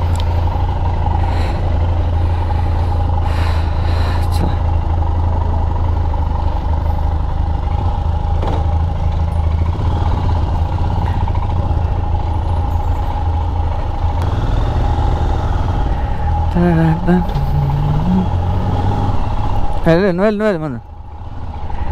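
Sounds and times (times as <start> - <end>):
motorcycle engine idling: 0.0 - 18.6, 19.2 - 21.9.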